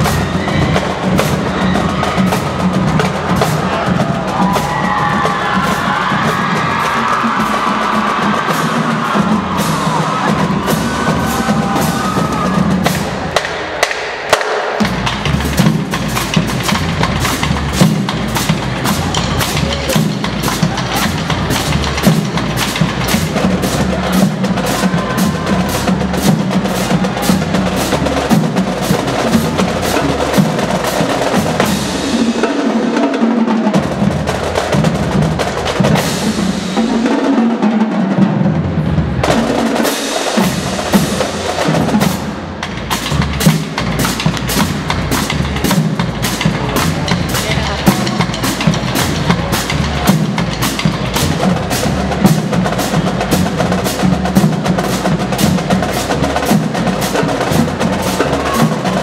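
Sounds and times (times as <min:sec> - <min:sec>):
bass drums pulsing: 0:00.0 - 0:13.9, 0:14.8 - 0:32.5, 0:40.4 - 0:59.0
snare drum rolls: 0:00.0 - 0:59.0.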